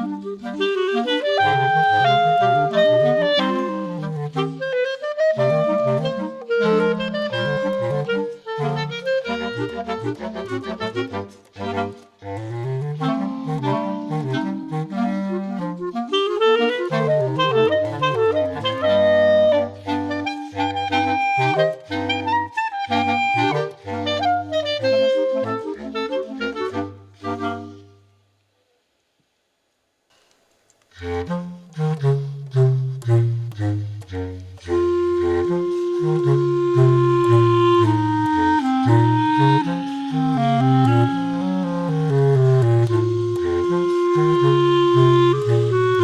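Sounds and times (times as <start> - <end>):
clarinet quartet playing: 0.0 - 28.2, 30.9 - 46.0.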